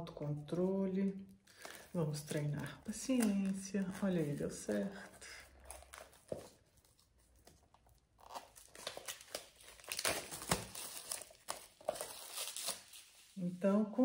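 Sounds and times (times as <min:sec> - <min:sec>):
wrapping crinkling and tearing: 0:01.3 - 0:13.4.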